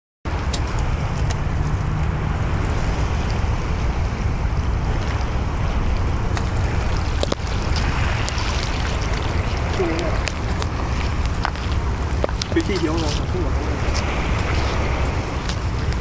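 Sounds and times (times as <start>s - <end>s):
sea waves washing: 0.3s - 16.0s
wind buffeting microphone: 0.3s - 16.0s.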